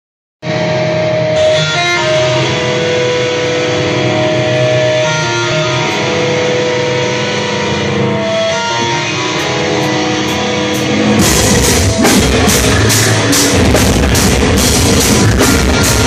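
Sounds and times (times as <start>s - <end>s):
bass guitar: 0.4s - 16.0s
distorted electric guitars: 0.4s - 16.0s
live metal band playing: 0.4s - 16.0s.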